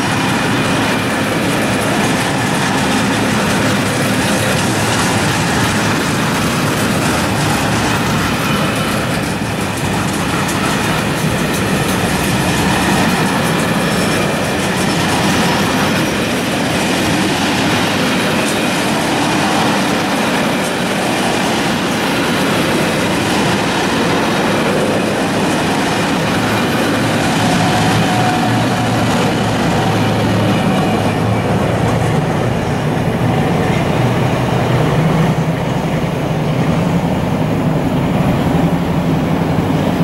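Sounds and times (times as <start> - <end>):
diesel locomotive engine drone: 0.0 - 40.0
train wheels clattering: 0.0 - 40.0.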